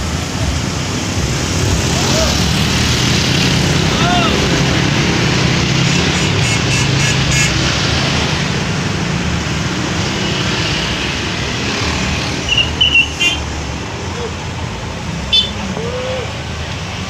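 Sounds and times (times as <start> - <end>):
bus engines rumbling: 0.0 - 17.0
traffic: 0.0 - 17.0.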